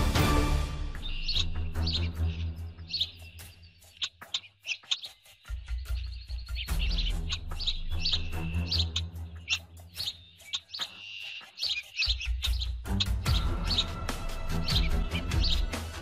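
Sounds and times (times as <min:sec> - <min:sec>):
birds chirping: 0:00.0 - 0:16.0
low sustained music: 0:00.0 - 0:16.0.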